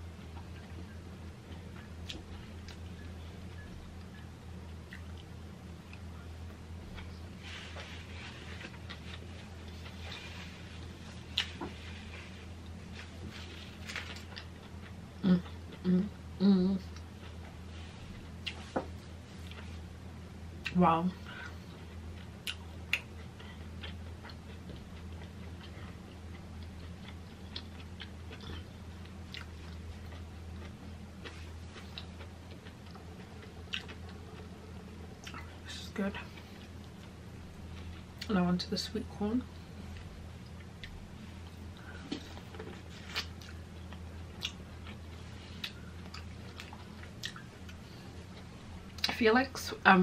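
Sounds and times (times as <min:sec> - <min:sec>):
steady low hum: 0:00.0 - 0:50.0
person chewing corn: 0:00.2 - 0:16.1, 0:16.8 - 0:19.9, 0:20.6 - 0:38.3, 0:39.8 - 0:49.1.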